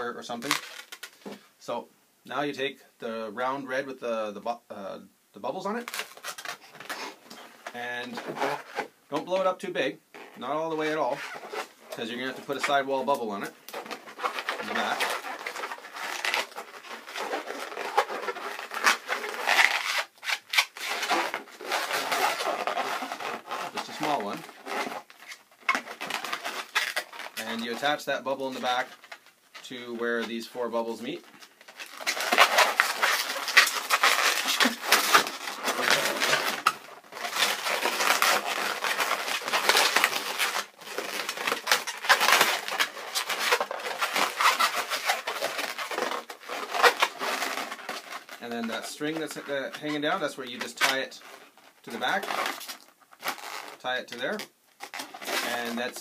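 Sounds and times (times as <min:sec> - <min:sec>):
balloon squeaking and rubbing: 0:00.0 - 0:01.5, 0:05.6 - 0:56.0.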